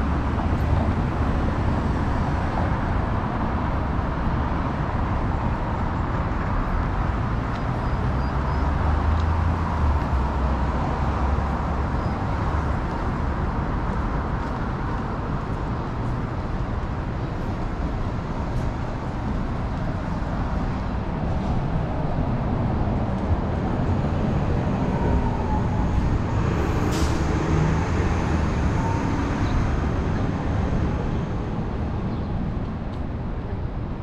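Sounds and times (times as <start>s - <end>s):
city street traffic rumble: 0.0s - 34.0s.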